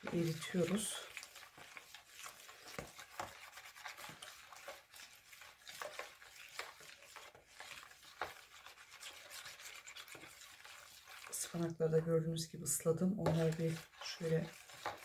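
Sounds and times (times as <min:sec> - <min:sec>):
spoon scraping a plastic bowl: 0:00.0 - 0:11.7, 0:12.6 - 0:15.0.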